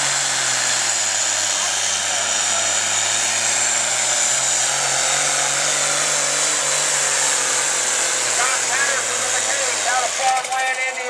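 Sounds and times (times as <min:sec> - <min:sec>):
tractor engine at high revs: 0:00.0 - 0:11.0.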